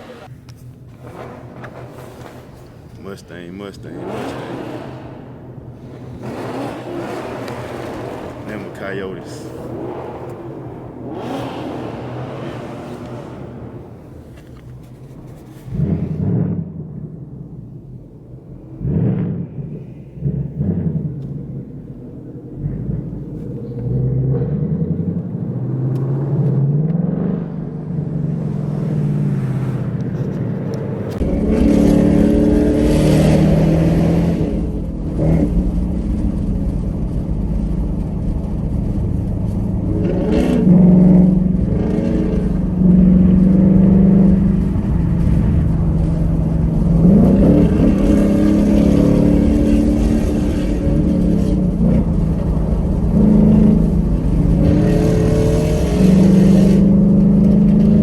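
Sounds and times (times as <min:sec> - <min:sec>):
deep heavy engine rumble: 0:00.0 - 0:58.0
loud car engines revving past: 0:00.0 - 0:58.0.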